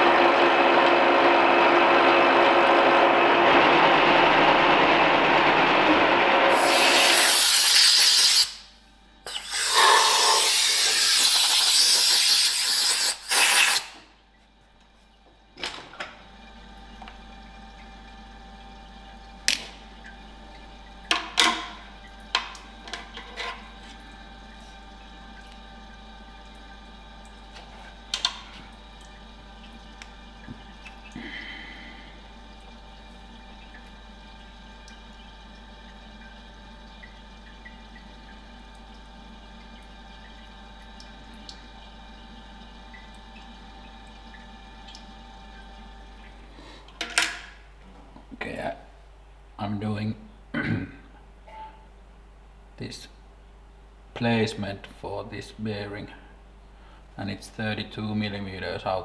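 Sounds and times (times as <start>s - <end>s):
low machine hum: 0.0s - 7.4s, 8.6s - 11.4s, 14.0s - 59.0s.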